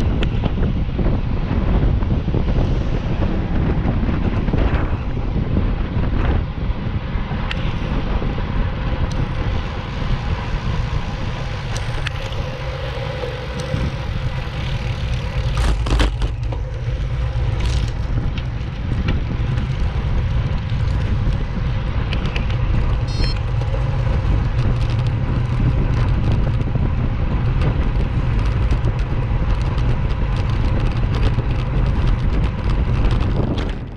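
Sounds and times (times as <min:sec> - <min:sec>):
road noise: 0:00.0 - 0:33.9
wind rushing over microphone: 0:00.0 - 0:33.9.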